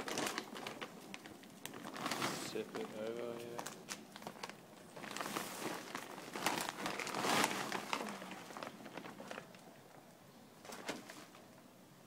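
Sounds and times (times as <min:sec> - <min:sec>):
plastic bag crinkling and rustling: 0:00.0 - 0:11.6.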